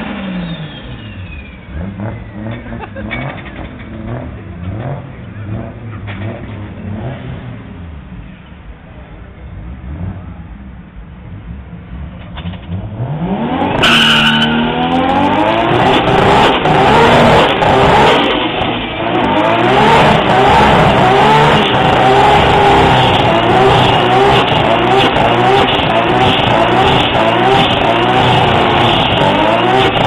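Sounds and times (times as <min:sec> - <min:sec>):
car engine revving hard: 0:00.0 - 0:07.9, 0:12.0 - 0:30.0.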